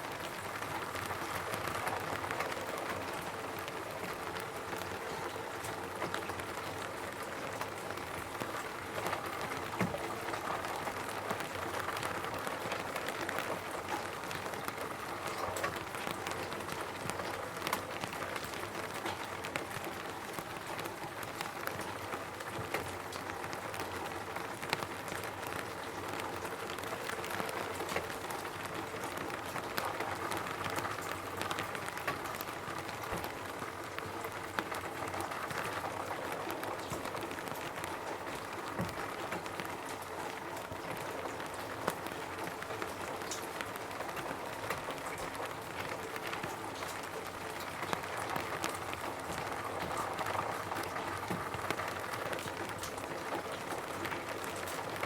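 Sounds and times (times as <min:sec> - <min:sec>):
rain on a roof: 0:00.0 - 0:55.0.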